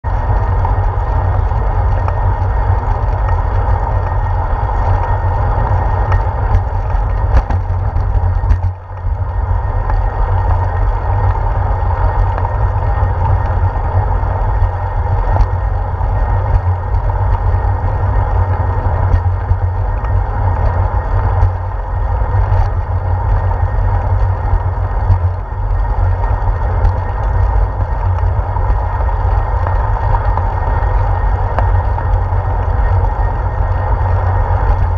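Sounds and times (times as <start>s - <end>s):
bicycle riding rumble: 0.0s - 34.9s
wind buffeting microphone: 0.0s - 34.9s
sharp clicks and rattles from bumps: 0.1s - 34.9s.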